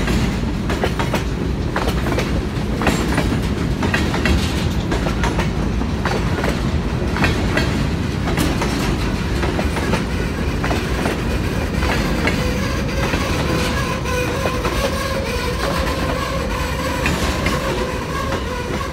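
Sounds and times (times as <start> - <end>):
train wheels clicking over rail joints: 0.0 - 18.9.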